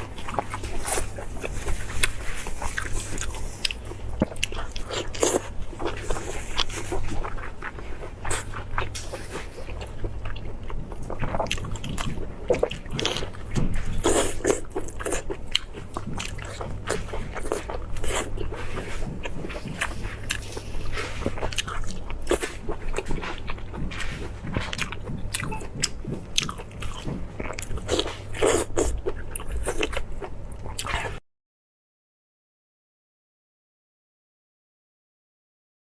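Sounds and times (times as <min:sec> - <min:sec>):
biting and chewing meat: 0:00.0 - 0:31.2
steady low hum: 0:00.0 - 0:31.2.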